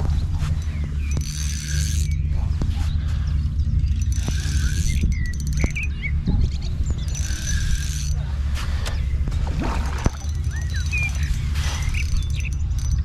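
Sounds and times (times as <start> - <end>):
low rumble: 0.0 - 13.0
small birds chirping: 0.0 - 13.0.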